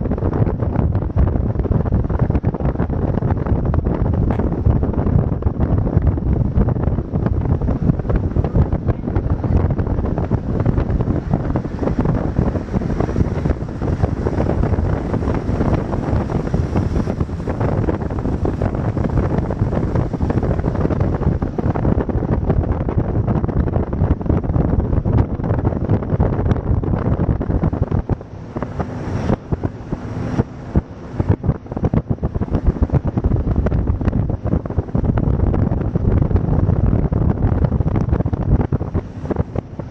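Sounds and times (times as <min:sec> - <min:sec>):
boat engine: 0:00.0 - 0:39.9
water: 0:00.0 - 0:39.9
wind buffeting microphone: 0:00.0 - 0:39.9.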